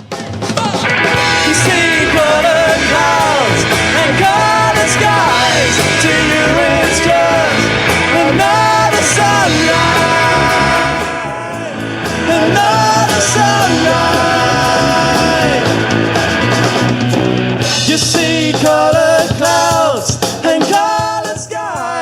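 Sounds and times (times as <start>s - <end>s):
rock band playing live: 0.0s - 22.0s
lead singer vocals: 0.6s - 16.4s, 17.6s - 22.0s.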